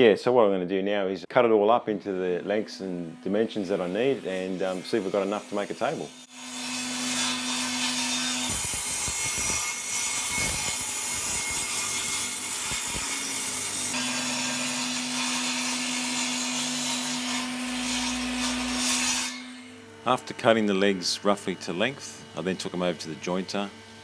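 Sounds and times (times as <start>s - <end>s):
power saw cutting timber: 2.1s - 24.0s.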